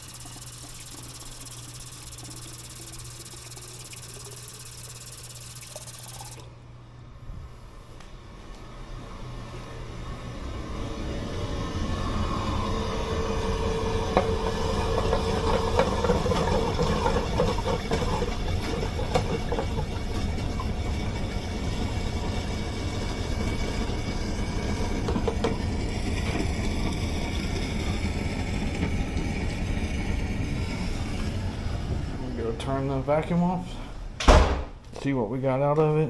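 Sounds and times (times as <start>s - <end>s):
shop vac running: 0.0s - 6.7s, 10.2s - 34.0s.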